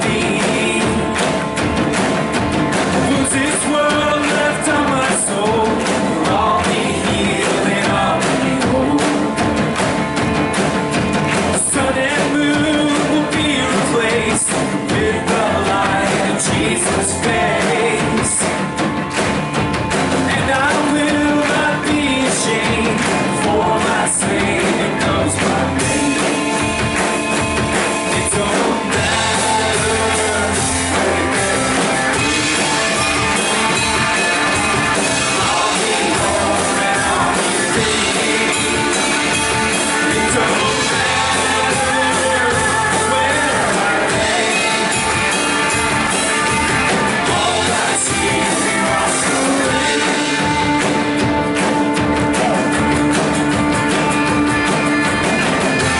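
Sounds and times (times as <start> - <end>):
person singing: 0.0 - 2.0, 2.7 - 19.1, 20.2 - 55.9
rock band playing: 0.0 - 55.9.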